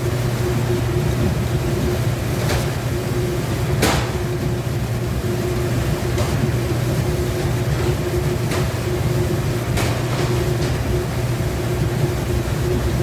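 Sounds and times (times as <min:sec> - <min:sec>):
dishwasher machine hum: 0:00.0 - 0:13.0.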